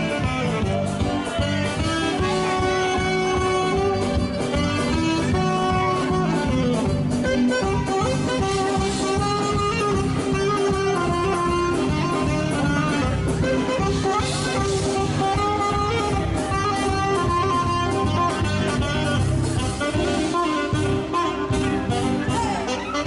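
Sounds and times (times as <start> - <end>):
band playing music: 0.0 - 23.0.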